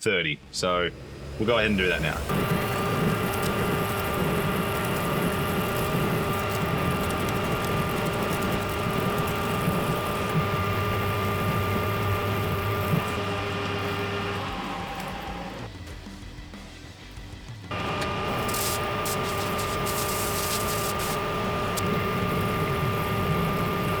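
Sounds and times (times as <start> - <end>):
gearbox whine: 0.0 - 24.0
low motor rumble: 0.3 - 24.0
metal lathe running: 0.6 - 15.7, 17.7 - 24.0.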